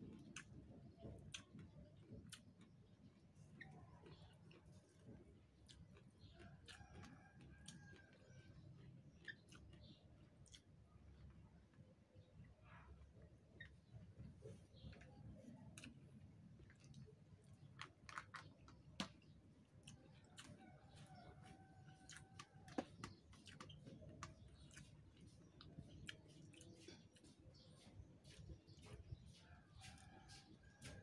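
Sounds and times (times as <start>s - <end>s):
faint chewing: 0.0s - 31.0s.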